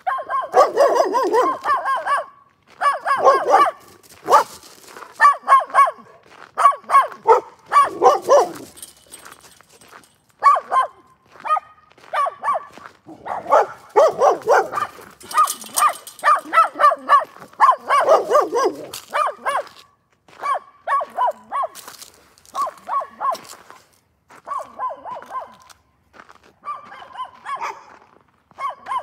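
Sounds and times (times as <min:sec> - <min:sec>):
dog barking: 0:00.0 - 0:09.3, 0:10.4 - 0:19.8, 0:20.4 - 0:21.8, 0:22.5 - 0:23.6, 0:24.4 - 0:25.7, 0:26.6 - 0:29.0.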